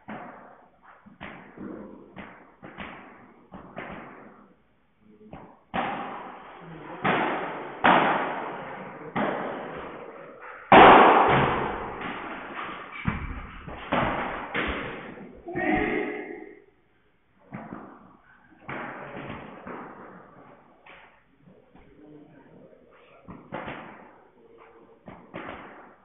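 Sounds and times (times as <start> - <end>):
padel ball pocks echoing: 0.0 - 16.8, 17.4 - 22.0, 23.2 - 26.0.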